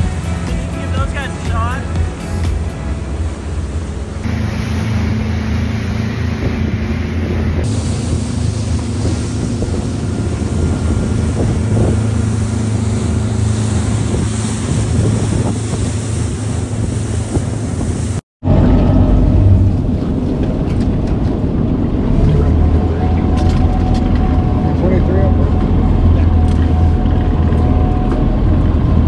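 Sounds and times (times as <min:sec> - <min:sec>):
boat motor running: 0:00.0 - 0:29.0
water noise: 0:00.0 - 0:29.0
wind buffeting microphone: 0:03.3 - 0:29.0.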